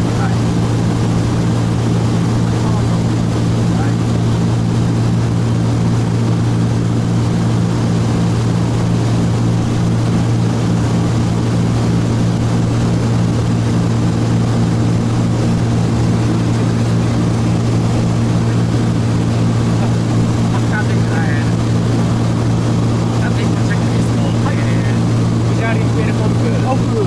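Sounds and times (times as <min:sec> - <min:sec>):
propeller aircraft engines humming: 0:00.0 - 0:27.0.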